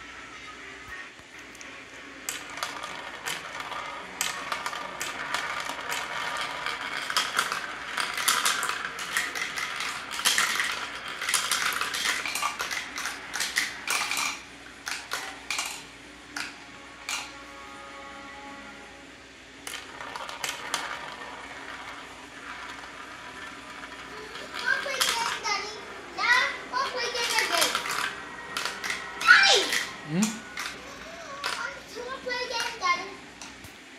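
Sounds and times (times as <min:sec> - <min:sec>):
marbles clattering through plastic run: 0:02.2 - 0:17.4, 0:19.6 - 0:33.0.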